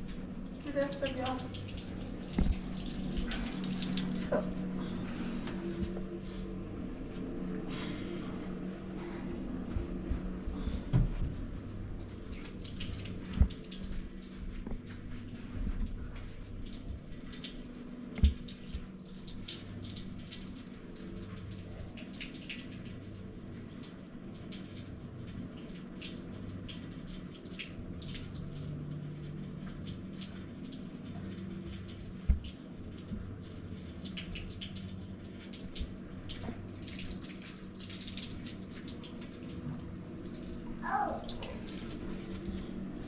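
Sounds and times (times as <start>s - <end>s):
tap water running and splashing: 0.0s - 6.1s, 10.9s - 43.0s.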